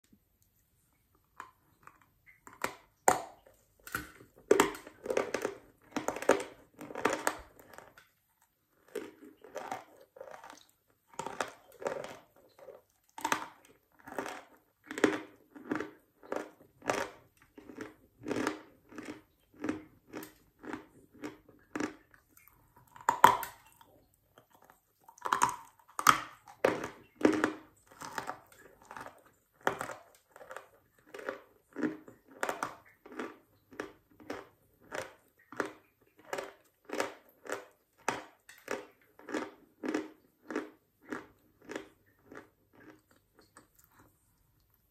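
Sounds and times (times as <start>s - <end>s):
chewing chalk crunching: 1.2s - 44.9s.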